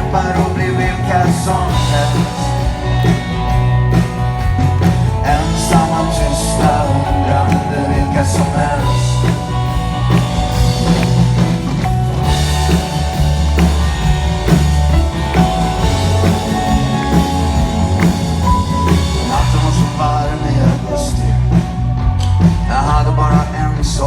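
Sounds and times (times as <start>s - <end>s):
drum kit beat: 0.0s - 22.6s
rock band playing: 0.0s - 24.0s.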